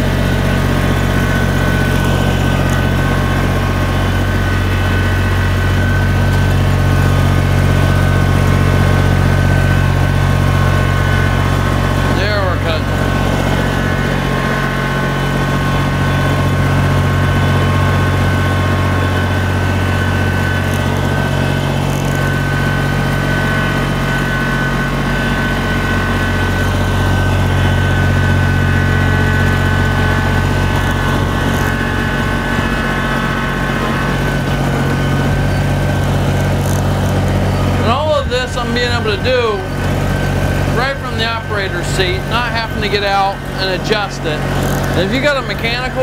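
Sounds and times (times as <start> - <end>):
diesel tractor engine running: 0.0 - 46.0
steady high whine: 0.0 - 46.0.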